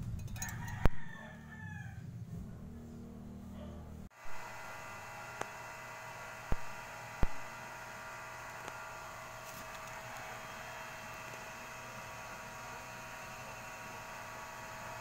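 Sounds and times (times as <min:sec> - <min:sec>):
electrical hum: 0:02.0 - 0:15.0.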